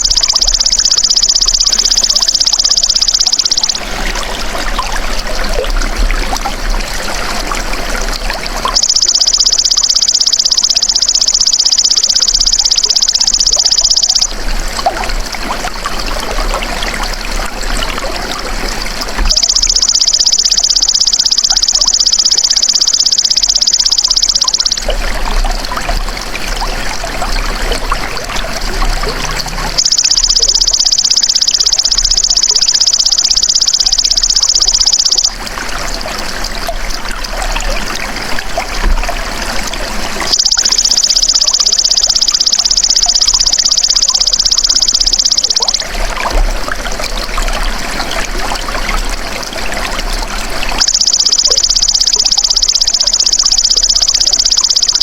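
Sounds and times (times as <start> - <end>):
trickling water: 0.0 - 55.0.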